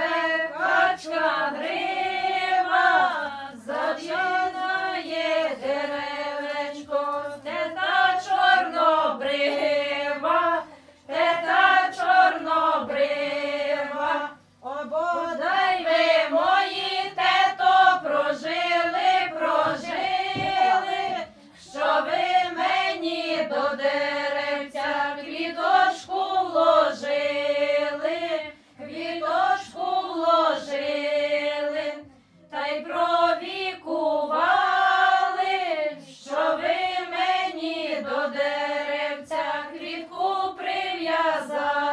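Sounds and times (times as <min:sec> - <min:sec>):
women singing unaccompanied: 0:00.0 - 0:41.9.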